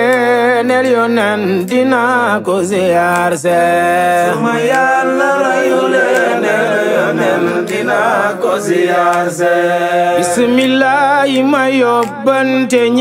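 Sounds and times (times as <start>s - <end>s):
person chanting devotional song: 0.0s - 13.0s.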